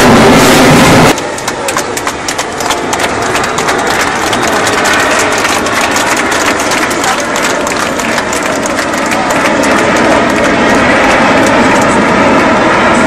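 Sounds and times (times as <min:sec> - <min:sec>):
military jet roaring overhead: 0:00.0 - 0:13.0
steady noise: 0:00.0 - 0:13.0.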